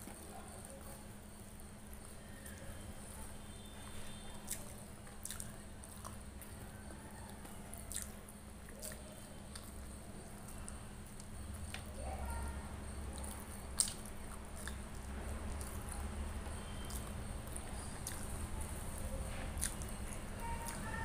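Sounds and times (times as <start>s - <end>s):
steady low hum: 0.0s - 21.0s
wet chewing: 2.0s - 21.0s.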